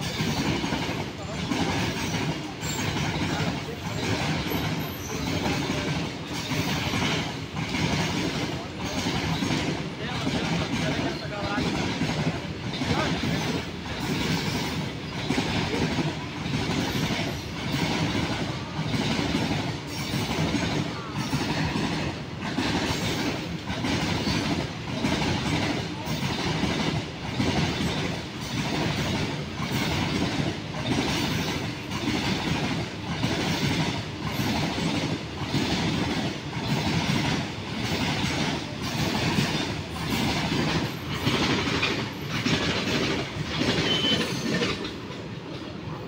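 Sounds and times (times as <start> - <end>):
train wheels clattering over rail joints: 0.0 - 46.0.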